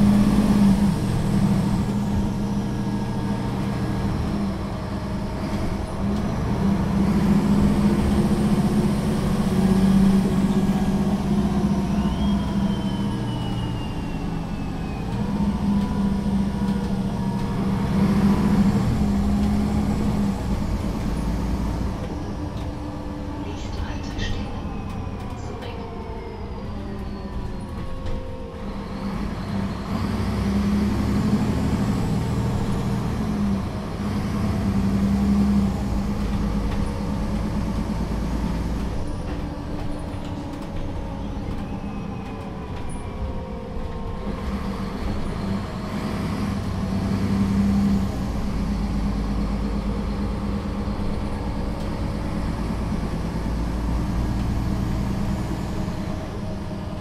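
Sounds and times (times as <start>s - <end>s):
bus engine and transmission: 0.0s - 57.0s.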